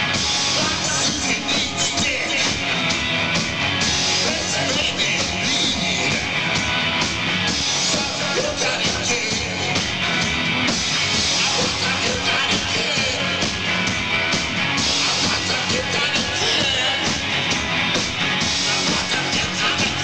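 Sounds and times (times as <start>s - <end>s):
rock band playing live: 0.0s - 20.0s.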